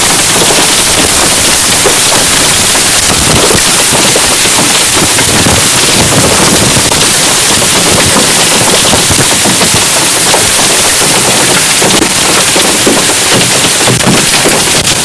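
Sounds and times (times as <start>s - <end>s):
hail pelting a car: 0.0s - 15.0s
heavy rain: 0.0s - 15.0s.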